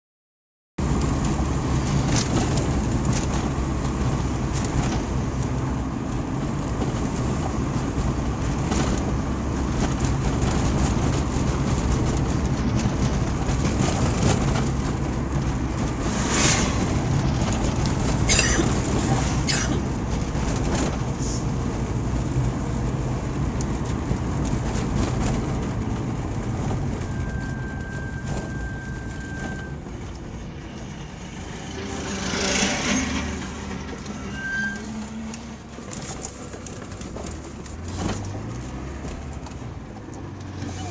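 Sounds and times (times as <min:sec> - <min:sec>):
vehicle engine and road rumble: 0:00.8 - 0:40.9.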